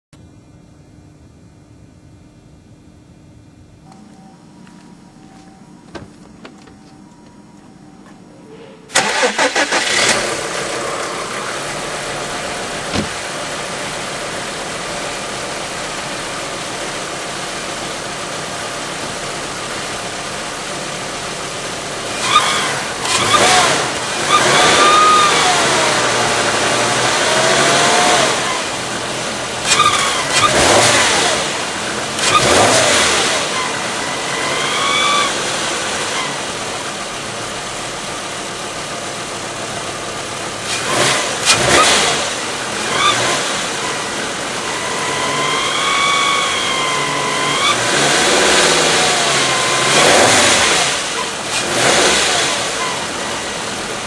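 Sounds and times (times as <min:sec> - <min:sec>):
car running noise: 0:03.8 - 0:54.0.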